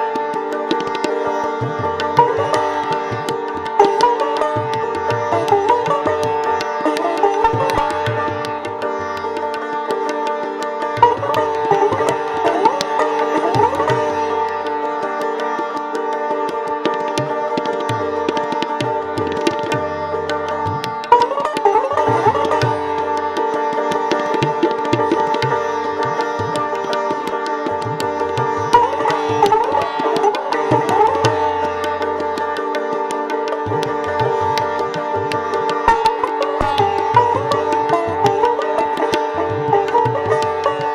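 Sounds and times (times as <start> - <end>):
sitar melody: 0.0 - 40.9
tabla drumming: 0.0 - 40.9.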